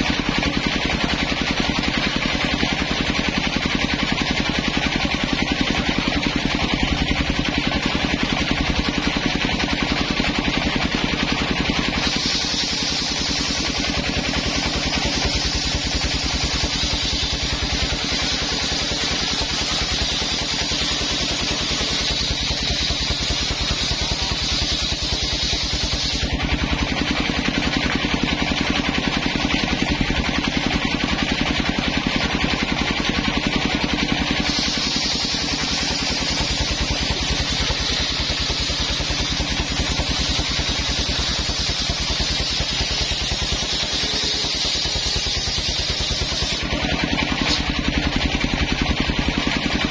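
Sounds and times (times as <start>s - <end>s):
circular saw cutting wood: 0.0s - 48.2s.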